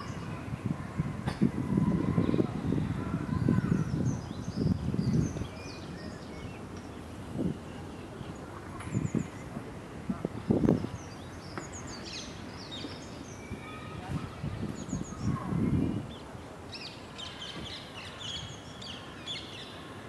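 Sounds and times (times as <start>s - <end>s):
birds chirping: 2.0s - 9.6s, 10.4s - 19.9s.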